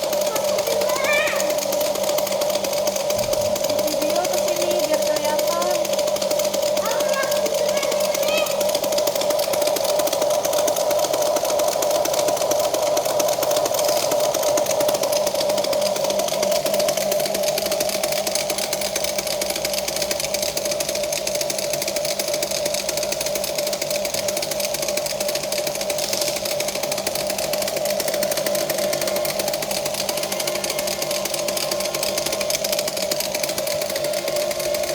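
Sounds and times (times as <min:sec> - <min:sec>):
small electric motors whirring: 0:00.0 - 0:34.9.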